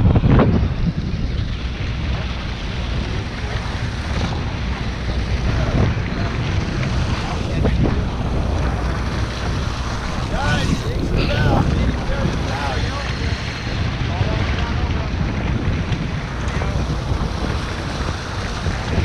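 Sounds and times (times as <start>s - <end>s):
seawater washing along hull: 0.0s - 19.0s
wind buffeting microphone: 0.0s - 19.0s.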